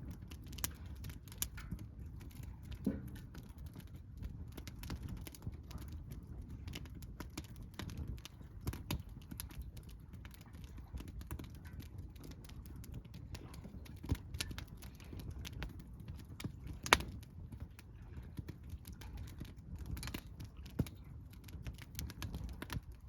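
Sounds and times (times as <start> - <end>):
low steady rumble: 0.0 - 23.0
wood fire crackling: 0.0 - 23.0.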